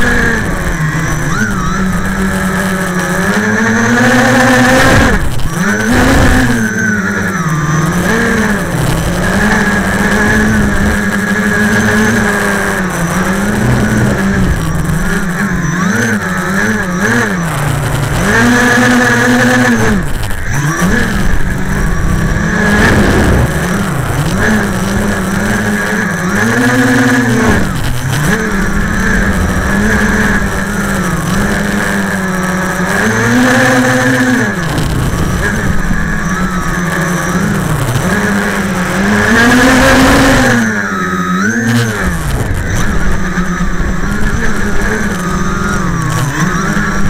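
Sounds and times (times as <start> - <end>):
quadcopter propellers buzzing: 0.0 - 47.0.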